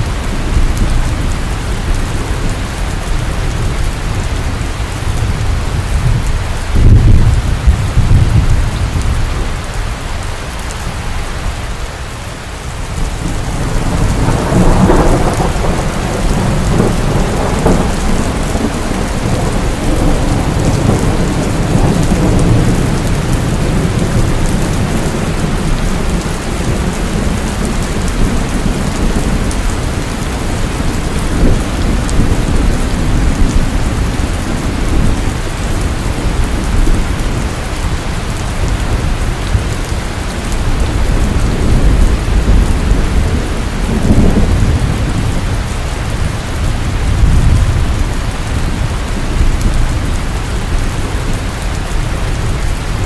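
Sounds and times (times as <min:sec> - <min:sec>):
thunder rumbling: 0:00.0 - 0:11.7, 0:12.8 - 0:53.0
steady rain falling: 0:00.0 - 0:53.0.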